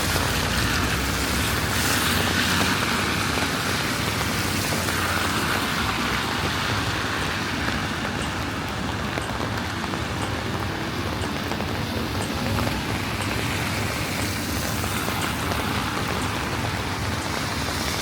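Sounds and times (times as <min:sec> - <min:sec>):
falling rain: 0:00.0 - 0:18.0
tyres hissing on wet road: 0:00.0 - 0:18.0.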